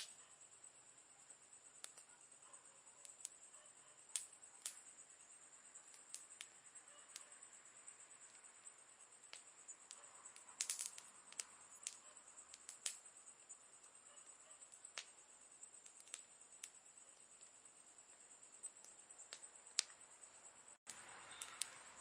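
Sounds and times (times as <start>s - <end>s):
campfire crackling: 0.0s - 22.0s
faint steady hiss: 0.0s - 22.0s.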